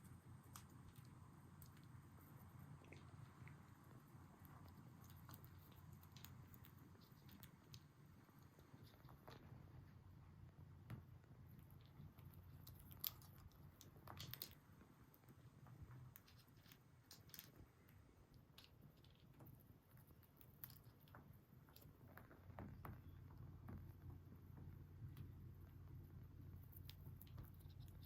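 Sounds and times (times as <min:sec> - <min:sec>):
small clicks and crunching: 0:00.4 - 0:25.6, 0:26.5 - 0:28.0.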